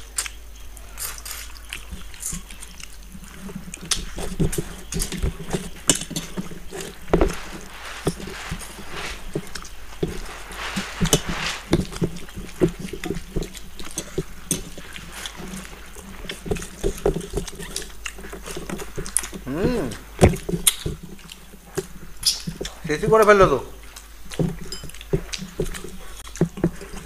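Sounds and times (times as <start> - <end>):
fingers squishing rice on plates: 0.0 - 27.0.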